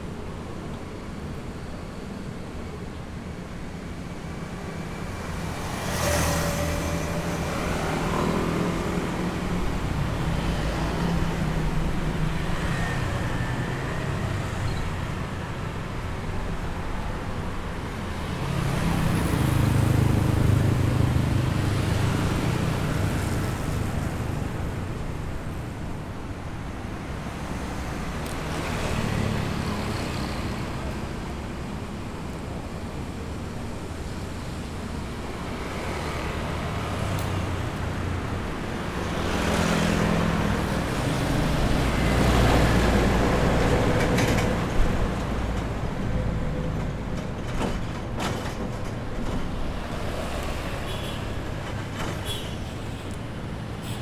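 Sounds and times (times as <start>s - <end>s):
cars and motorbikes passing: 4.4s - 47.6s, 48.9s - 54.0s.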